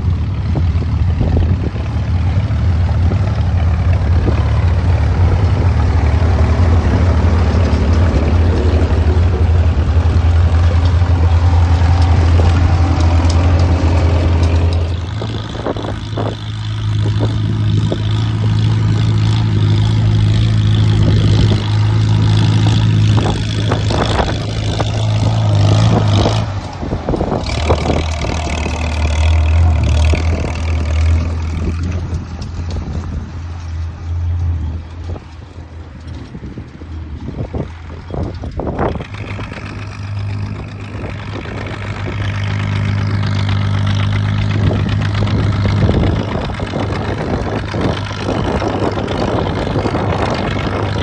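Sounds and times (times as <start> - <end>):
tractor engine droning: 0.0 - 51.0.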